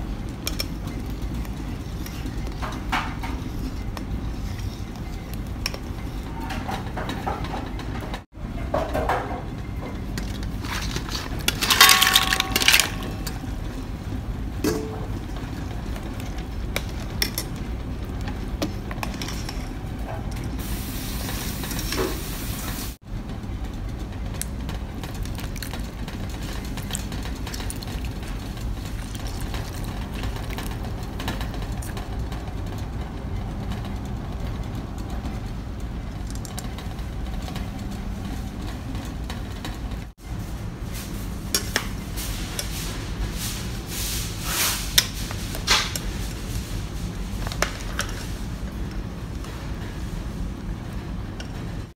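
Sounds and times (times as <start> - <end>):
stove rumbling: 0.0 - 51.9.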